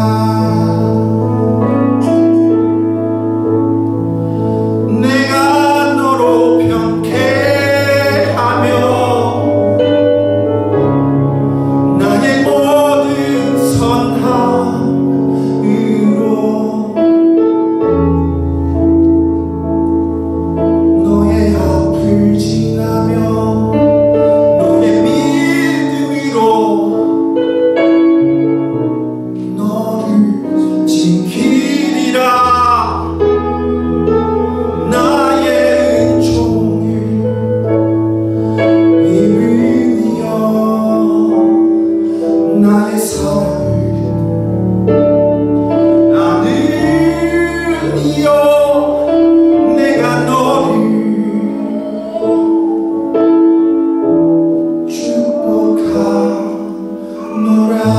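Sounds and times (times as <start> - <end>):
man singing into a microphone: 0.0 - 2.6, 4.6 - 18.1, 20.8 - 28.4, 29.4 - 57.9
sustained keyboard chords: 0.0 - 57.9.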